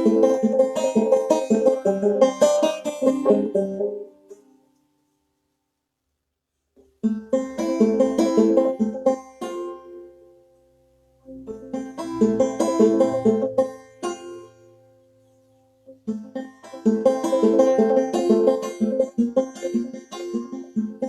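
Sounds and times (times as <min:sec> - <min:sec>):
banjo playing: 0:00.0 - 0:04.6, 0:06.8 - 0:21.0.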